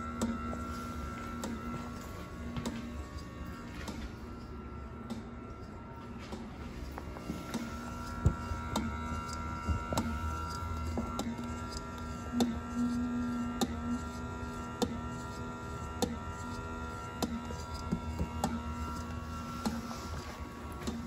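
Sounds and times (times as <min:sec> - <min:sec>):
electric motor humming: 0:00.0 - 0:21.0.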